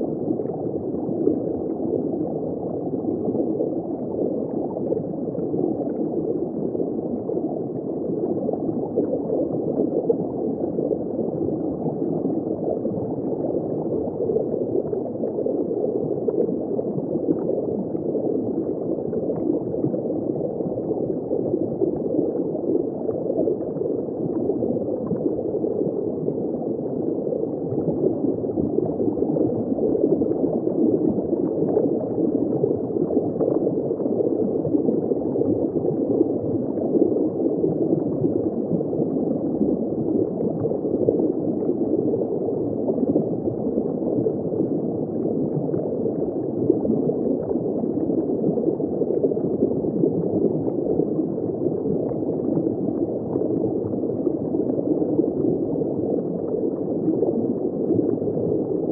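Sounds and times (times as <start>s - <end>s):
underwater bubbling and gurgling: 0.0s - 58.9s.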